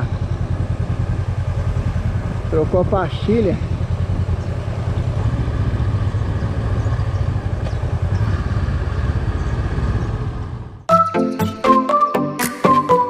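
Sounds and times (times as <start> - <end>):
motorcycle engine rumbling: 0.0 - 10.9
wind and road noise: 0.0 - 10.9.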